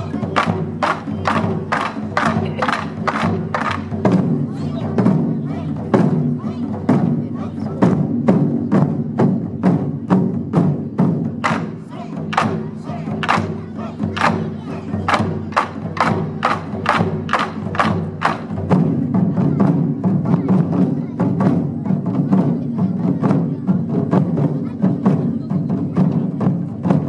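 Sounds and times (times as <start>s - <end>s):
taiko drums sharp wooden strikes: 0.0s - 27.0s.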